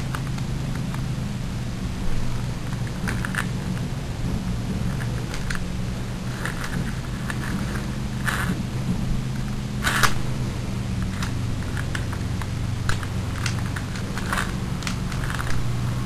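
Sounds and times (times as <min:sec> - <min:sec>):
small nitro engine idling: 0:00.0 - 0:16.0.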